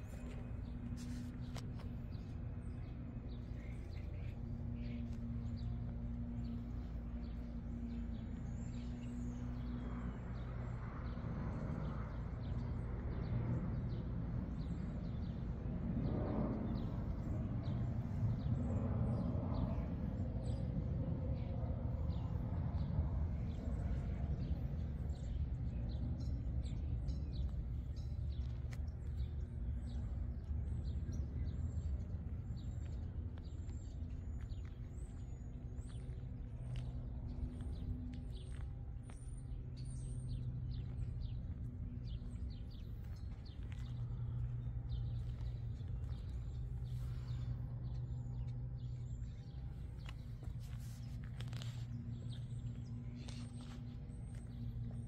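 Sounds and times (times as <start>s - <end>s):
low steady hum: 0.0s - 55.0s
small birds chirping: 0.0s - 55.0s
steady low rumble: 0.0s - 55.0s.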